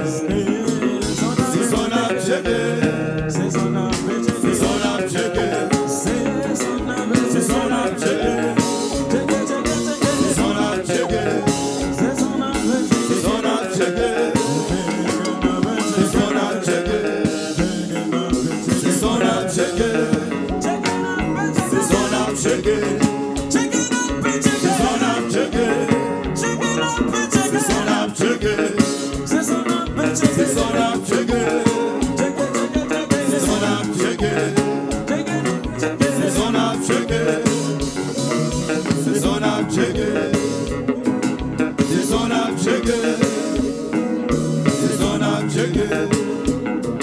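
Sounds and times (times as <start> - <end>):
live band playing: 0.0 - 47.0
people singing: 0.0 - 47.0.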